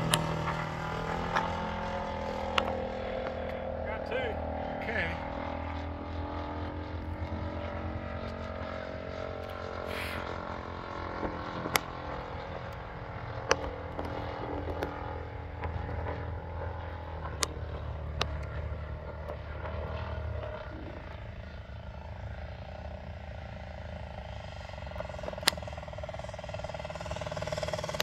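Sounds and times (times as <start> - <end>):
model plane engine droning: 0.0 - 28.0.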